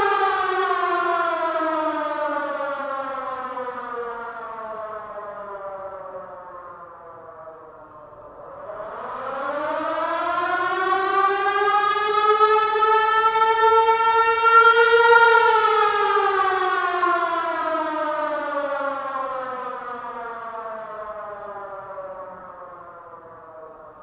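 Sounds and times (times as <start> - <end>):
siren wailing: 0.0 - 24.0.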